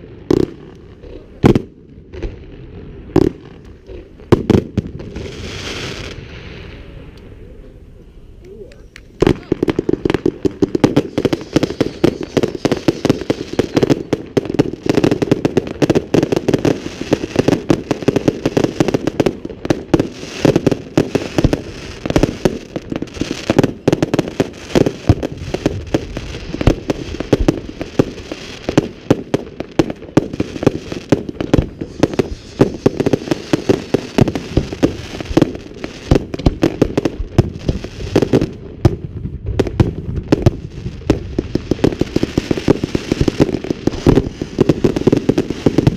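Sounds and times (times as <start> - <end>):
fireworks bangs and crackling: 0.0 - 45.9.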